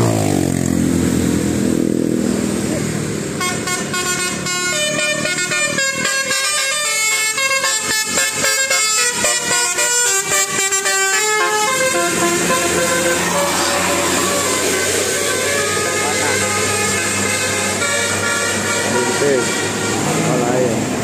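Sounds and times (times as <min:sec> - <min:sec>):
rapid horn-like tune: 0:03.4 - 0:20.8.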